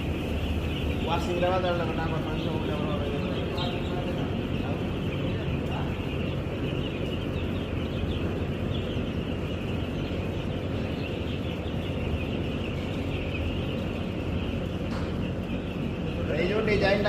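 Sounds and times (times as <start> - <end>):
chickens chirping and clucking: 0.0 - 17.0
ventilation fans humming: 0.0 - 17.0.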